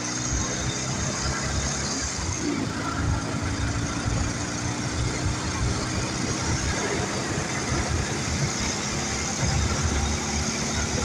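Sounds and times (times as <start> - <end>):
motorcycle engine rumbling: 0.0 - 11.0
wind and road noise hiss: 0.0 - 11.0.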